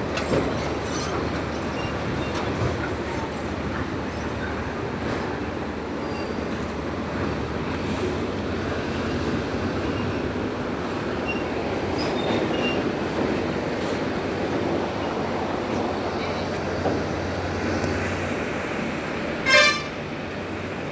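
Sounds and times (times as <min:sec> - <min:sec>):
diesel engine running: 0:00.0 - 0:18.5.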